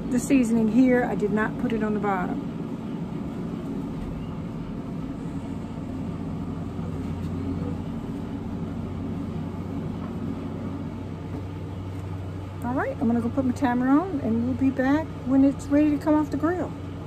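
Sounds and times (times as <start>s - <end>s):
convection blower humming: 0.0s - 17.0s
deeper hum: 0.0s - 17.0s.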